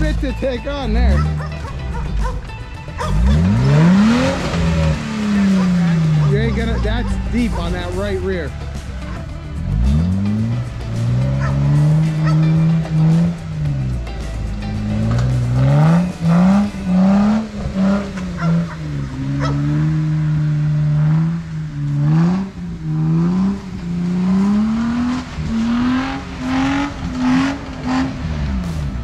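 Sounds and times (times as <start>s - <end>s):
engine revving up and down: 0.0s - 29.0s.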